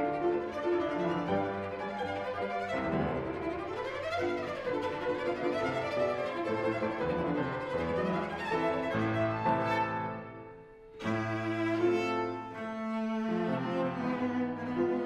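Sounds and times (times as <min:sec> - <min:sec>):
cello bowing a melody: 0:00.0 - 0:15.0
piano: 0:00.0 - 0:15.0.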